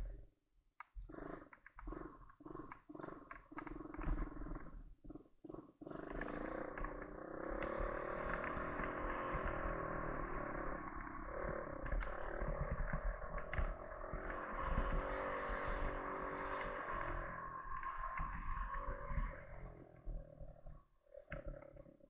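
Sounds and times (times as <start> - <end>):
atv engine revving: 1.0 - 21.8.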